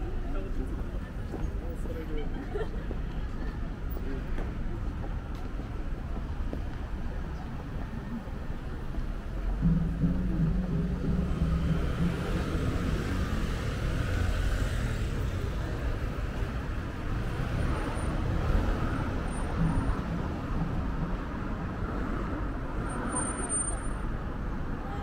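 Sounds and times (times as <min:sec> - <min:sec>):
cars passing on road: 0:00.0 - 0:25.0.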